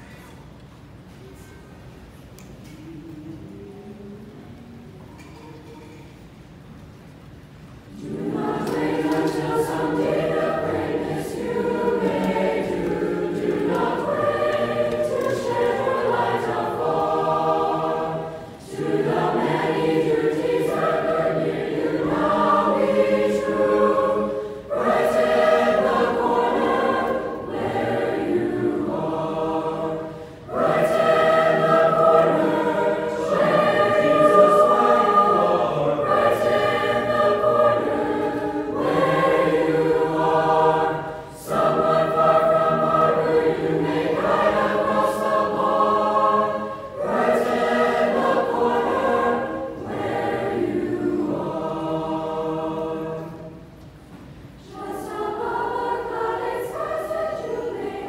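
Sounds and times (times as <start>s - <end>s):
mixed choir singing: 7.8s - 58.0s.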